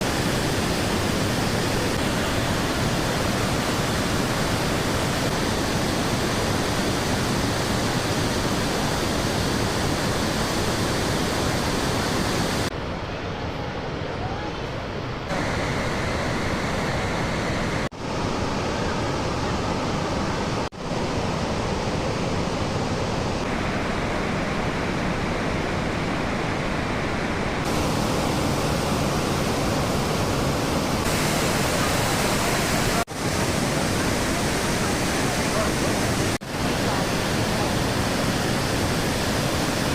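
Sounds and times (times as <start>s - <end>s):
waterfall rushing: 0.0s - 12.7s, 15.3s - 39.9s.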